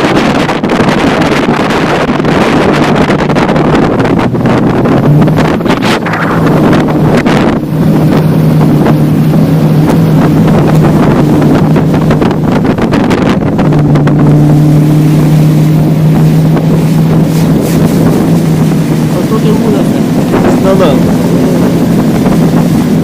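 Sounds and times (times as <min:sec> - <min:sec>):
motorboat engine droning: 0:00.0 - 0:23.0
wind buffeting microphone: 0:00.0 - 0:23.0.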